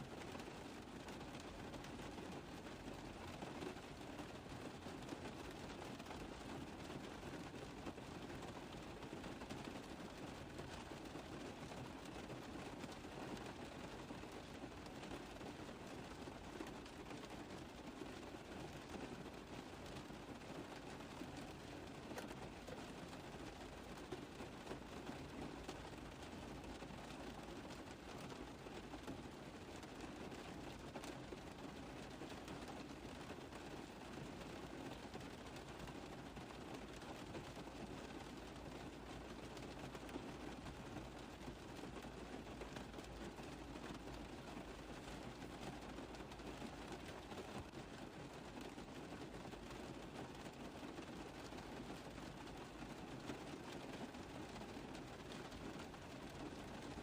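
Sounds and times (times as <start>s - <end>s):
rain on a car roof: 0.0s - 57.0s.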